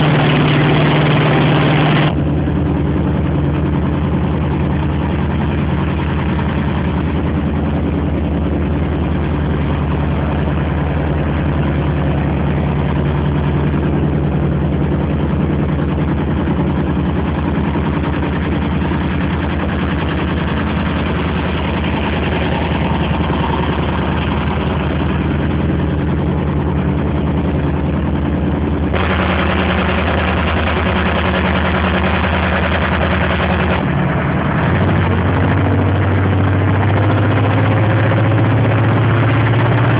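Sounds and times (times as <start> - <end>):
harvester diesel engine running: 0.0 - 39.9.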